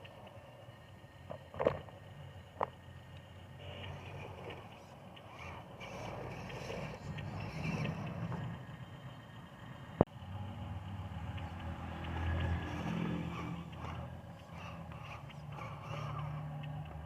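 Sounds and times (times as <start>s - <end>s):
dump truck engine running: 0.0s - 17.0s.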